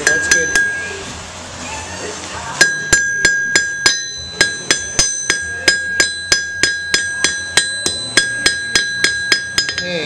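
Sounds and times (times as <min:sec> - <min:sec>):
hammer ringing on metal: 0:00.0 - 0:01.0, 0:02.6 - 0:10.0.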